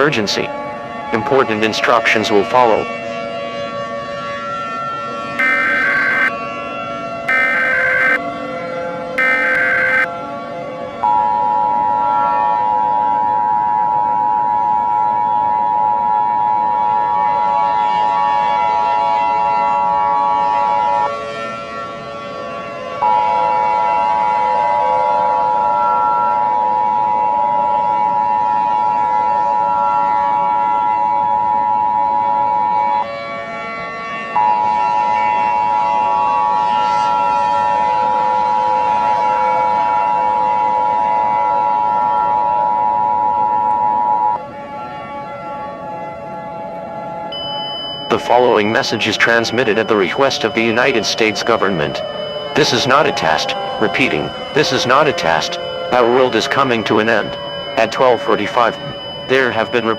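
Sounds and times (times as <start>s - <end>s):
two-tone alarm: 3.7s - 10.2s, 11.0s - 21.6s, 23.0s - 59.9s.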